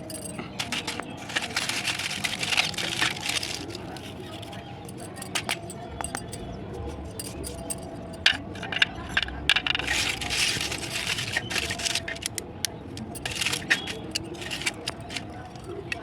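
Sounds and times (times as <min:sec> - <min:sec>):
clay crunching and cracking: 0:00.0 - 0:16.0
clinks: 0:00.0 - 0:16.0.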